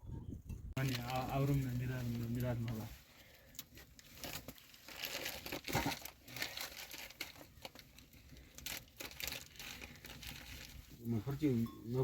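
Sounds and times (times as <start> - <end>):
rustling and crinkling: 0.8 - 12.0.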